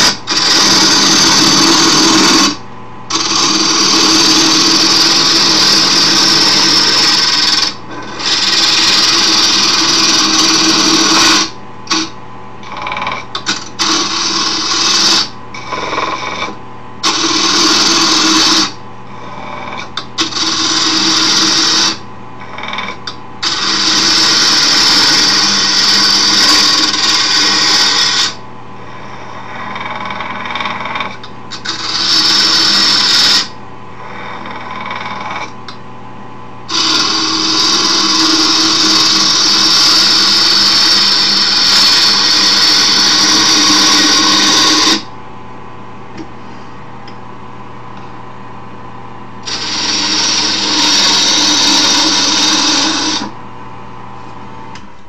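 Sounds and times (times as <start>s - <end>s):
tool scraping turning wood: 0.0s - 28.4s, 29.0s - 35.7s, 36.7s - 45.1s, 49.4s - 53.3s
wood lathe motor humming: 0.0s - 35.8s, 36.7s - 45.1s, 49.4s - 53.4s.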